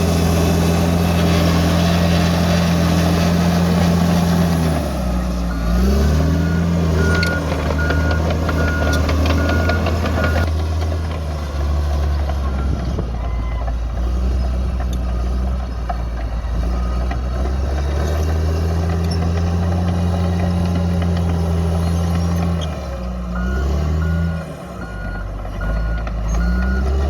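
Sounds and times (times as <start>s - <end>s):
diesel engine of heavy machine: 0.0s - 27.0s.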